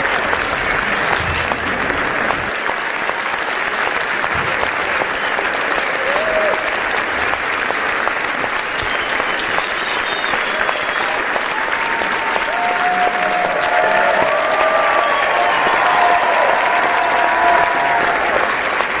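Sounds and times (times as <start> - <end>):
applause: 0.0 - 19.0.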